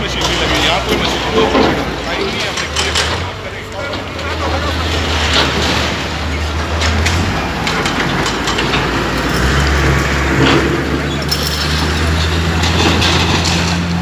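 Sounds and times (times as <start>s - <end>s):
diesel engines running: 0.0s - 14.0s
walls and roofing crashing down: 0.2s - 14.0s.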